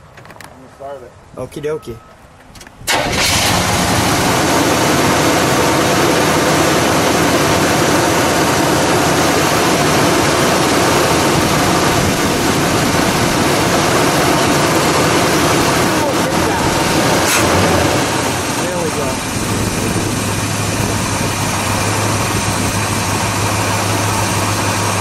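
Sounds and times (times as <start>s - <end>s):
vee eight engine idling loudly: 2.9s - 25.0s.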